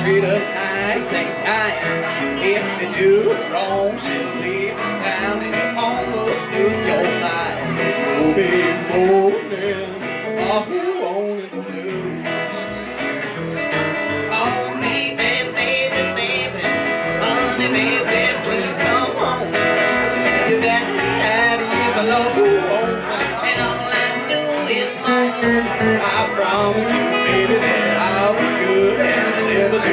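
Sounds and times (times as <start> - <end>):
acoustic guitar: 0.0 - 29.9
electric guitar: 0.0 - 29.9
upright bass: 0.0 - 29.9.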